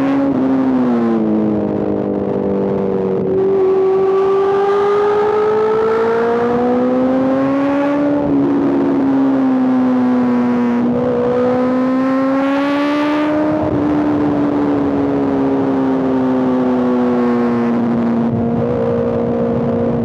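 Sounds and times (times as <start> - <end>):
motorcycle engine revving: 3.0 - 20.0.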